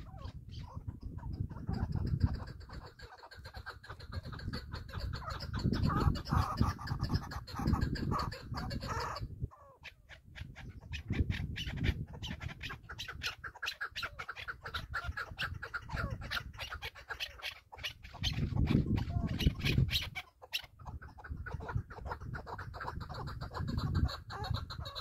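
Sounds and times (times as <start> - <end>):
bird calling in rapid runs: 0.0 - 25.0.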